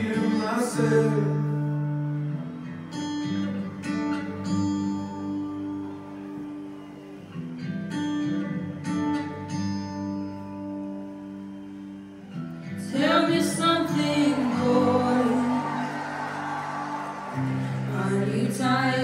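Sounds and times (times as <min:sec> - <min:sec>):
acoustic guitar picking and strumming: 0:00.0 - 0:19.0.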